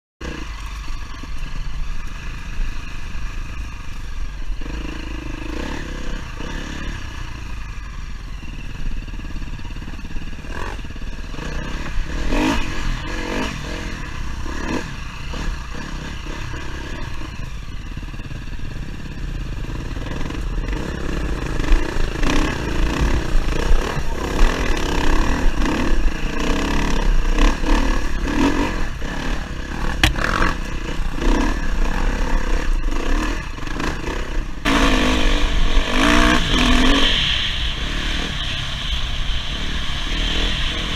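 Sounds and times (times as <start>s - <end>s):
dirt bike engine running: 0.2s - 40.9s
wind rumble on microphone: 5.8s - 40.9s.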